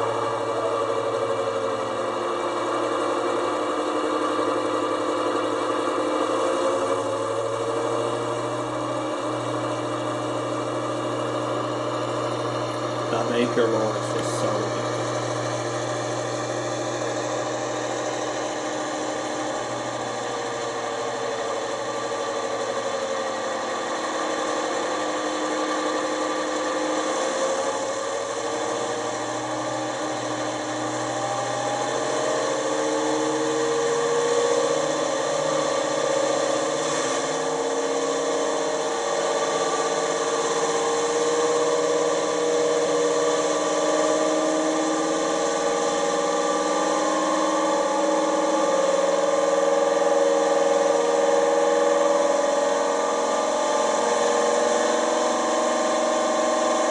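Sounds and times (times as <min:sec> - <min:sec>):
diesel engine from small speaker: 0:00.0 - 0:56.9.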